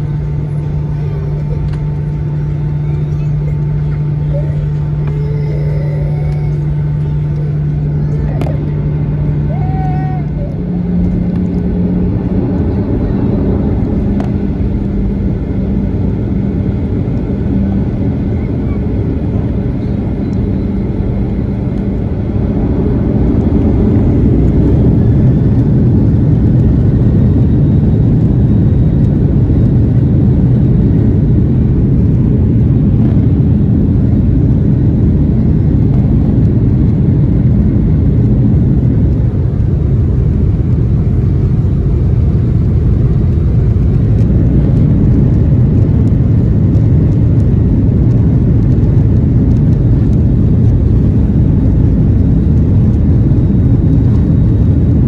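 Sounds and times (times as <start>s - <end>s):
jet engines at takeoff power: 0.0s - 55.0s.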